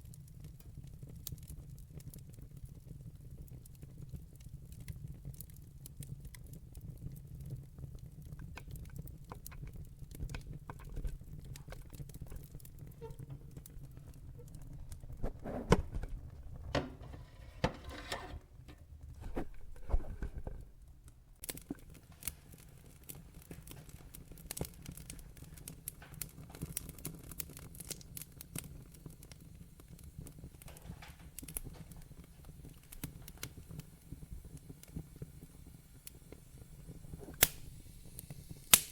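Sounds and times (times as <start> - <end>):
logs crackling and popping: 0.0 - 38.9
low fire rumble: 0.0 - 38.9.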